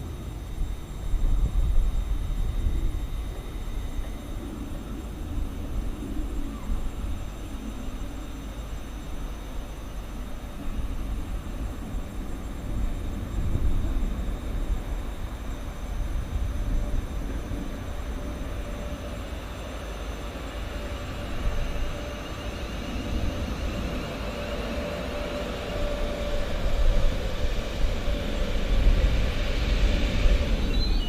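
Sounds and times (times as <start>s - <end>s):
steady whine: 0.0s - 31.0s
train rumbling: 0.0s - 31.0s
wheels hissing on rail: 1.5s - 31.0s.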